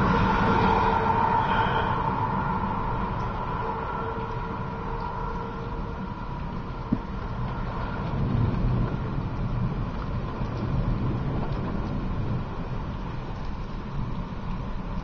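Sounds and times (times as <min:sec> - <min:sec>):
wind and rain rumbling: 0:00.0 - 0:15.0.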